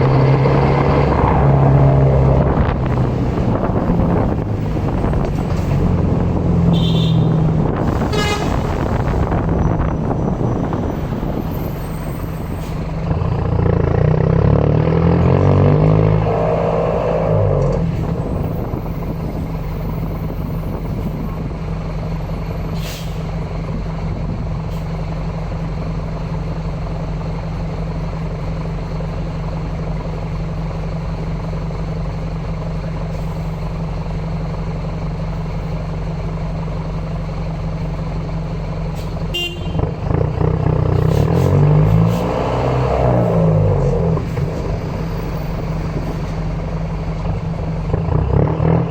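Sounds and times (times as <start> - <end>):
bus diesel engine droning: 0.0 - 48.9.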